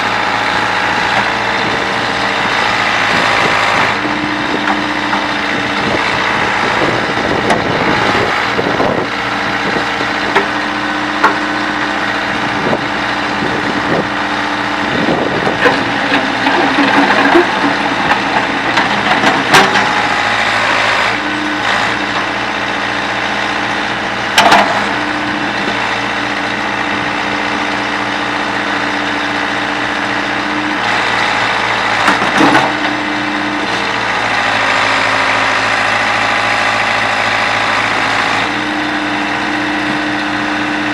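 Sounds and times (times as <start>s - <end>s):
backhoe engine running: 0.0s - 40.9s.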